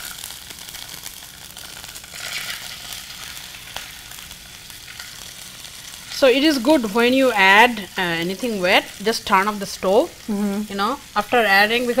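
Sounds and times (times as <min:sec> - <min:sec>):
eggs sizzling in hot oil: 0:00.0 - 0:12.0.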